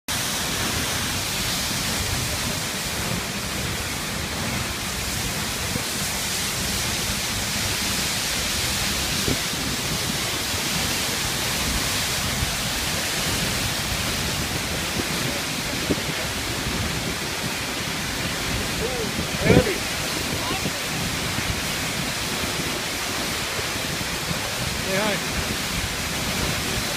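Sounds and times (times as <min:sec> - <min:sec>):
waterfall rushing: 0:00.1 - 0:26.9.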